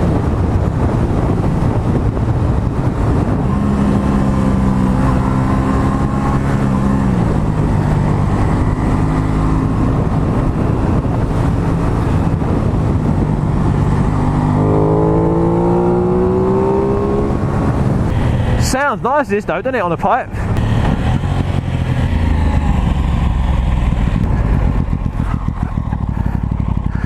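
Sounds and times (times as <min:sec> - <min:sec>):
wind rush on microphone: 0:00.0 - 0:18.7, 0:20.3 - 0:27.0
motorcycle engine: 0:00.0 - 0:19.0, 0:20.3 - 0:27.0.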